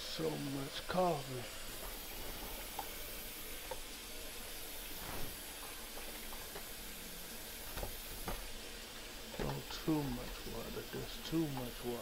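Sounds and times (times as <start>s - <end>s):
coffee maker steam hissing: 0.0s - 12.0s.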